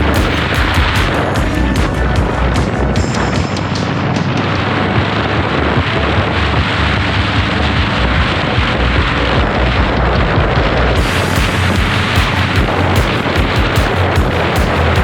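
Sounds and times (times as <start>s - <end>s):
motorcycle engine pulsing: 0.0s - 15.0s.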